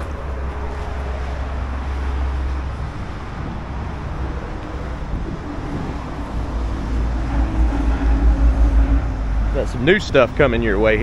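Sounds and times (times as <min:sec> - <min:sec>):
road traffic rumble: 0:00.0 - 0:11.0
wind on microphone: 0:00.0 - 0:11.0.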